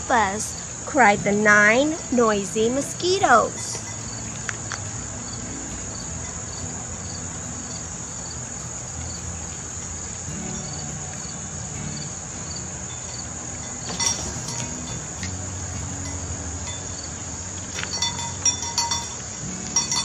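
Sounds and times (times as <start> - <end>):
cricket chirps: 0.0 - 20.0
crickets trilling: 0.0 - 20.0.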